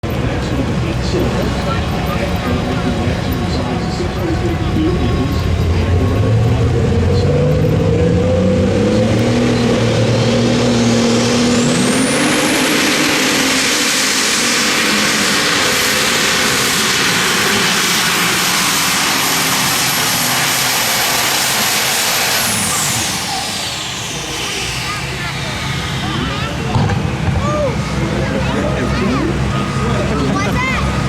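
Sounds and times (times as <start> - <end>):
diesel tractor engine under load: 0.0 - 31.0
high turbo whine: 0.0 - 31.0.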